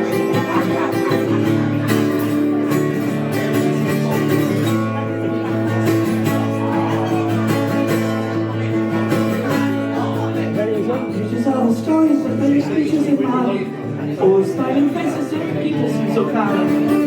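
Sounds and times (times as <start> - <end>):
guitar chords: 0.0 - 17.0.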